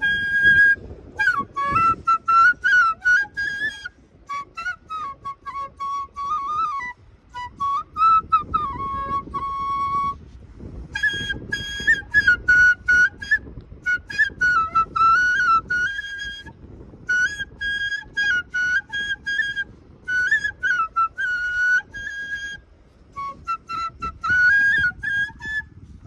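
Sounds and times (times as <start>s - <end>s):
side-blown flute melody: 0.0s - 26.0s.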